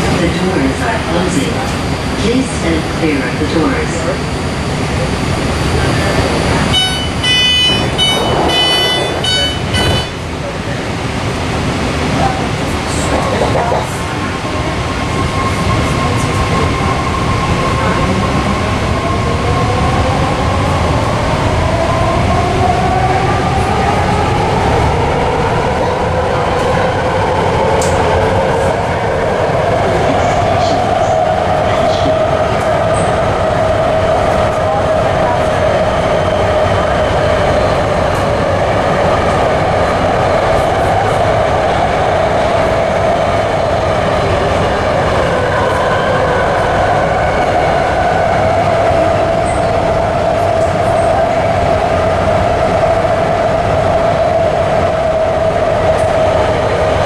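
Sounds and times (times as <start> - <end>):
wheels rumbling on track: 0.0 - 57.0.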